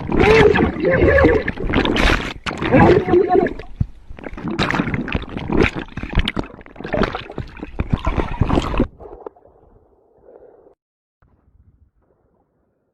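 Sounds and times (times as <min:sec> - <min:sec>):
water splashing and sloshing: 0:00.0 - 0:10.8.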